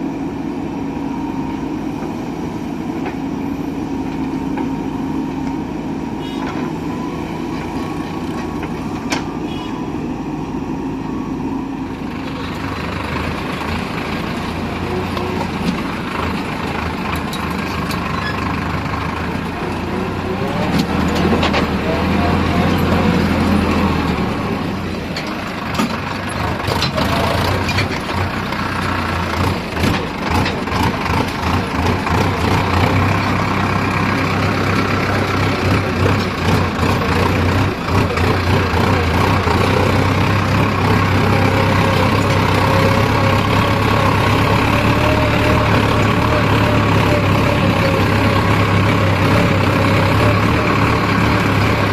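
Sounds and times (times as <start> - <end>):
diesel machinery engine hum: 0.0 - 51.9.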